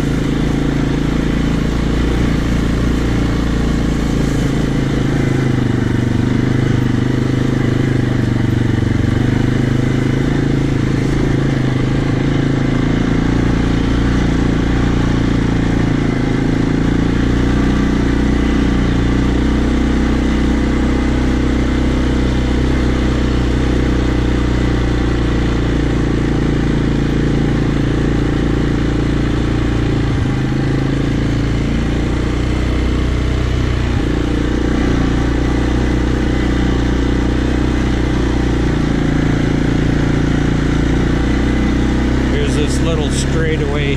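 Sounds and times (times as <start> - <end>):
quad engine running: 0.0 - 43.9.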